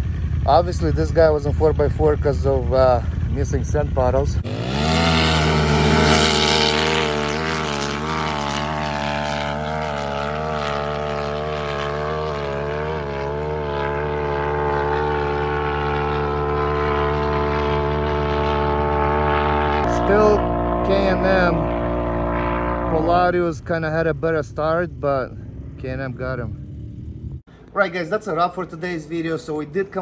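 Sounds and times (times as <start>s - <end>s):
engines at full throttle: 0.0s - 27.7s.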